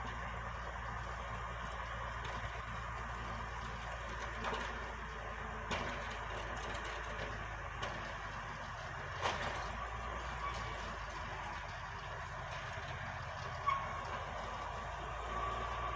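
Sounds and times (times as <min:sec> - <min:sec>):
engine humming: 0:00.0 - 0:15.9.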